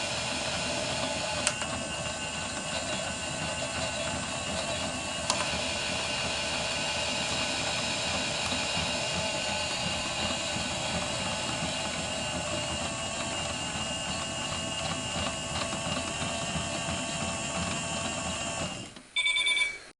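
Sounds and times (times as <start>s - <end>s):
toy washing machine whirring: 0.0s - 19.8s.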